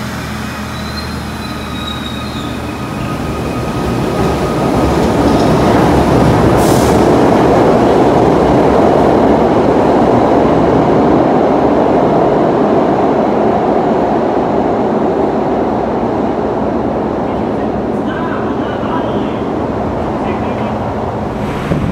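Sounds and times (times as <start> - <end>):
subway train wheels rumbling: 0.0 - 21.9.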